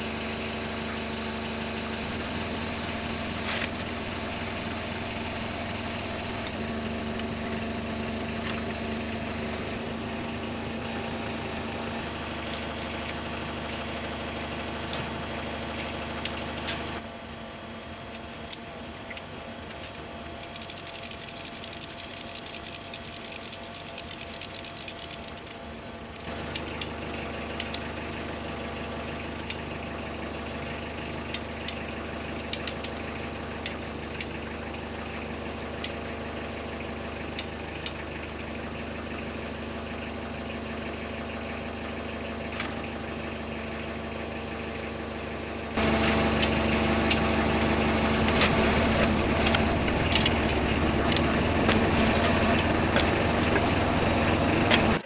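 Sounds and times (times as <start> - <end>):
heavy equipment engine humming: 0.0 - 18.1, 18.8 - 55.0.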